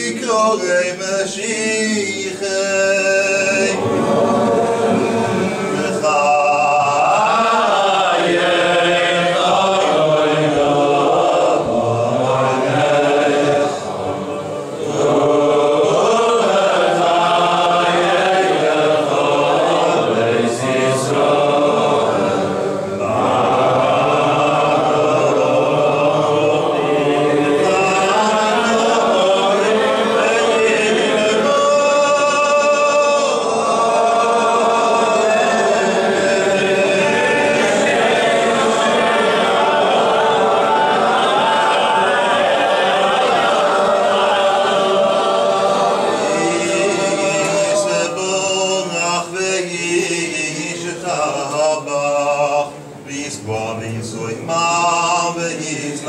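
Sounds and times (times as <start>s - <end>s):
men chanting prayers: 0.0s - 56.0s.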